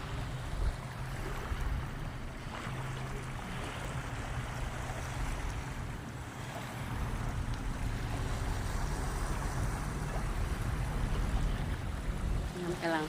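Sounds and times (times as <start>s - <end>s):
sea waves washing ashore: 0.0s - 13.0s
wind rumbling on microphone: 0.0s - 13.0s.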